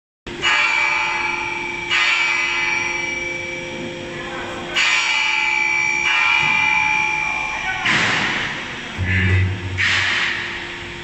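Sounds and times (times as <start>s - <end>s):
whining machinery noise: 0.3s - 11.0s.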